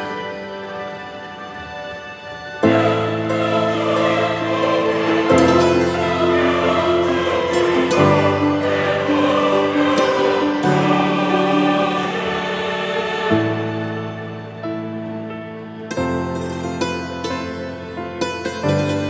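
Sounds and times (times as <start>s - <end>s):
slow choir-like chords: 0.0s - 19.0s.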